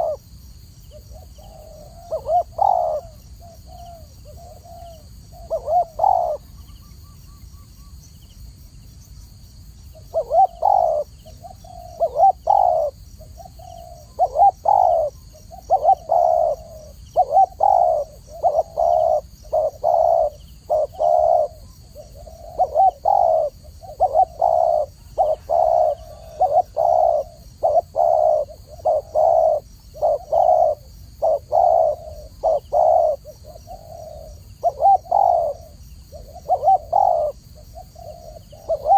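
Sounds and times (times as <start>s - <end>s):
dove cooing: 0.0s - 0.2s, 0.9s - 7.1s, 10.0s - 38.9s.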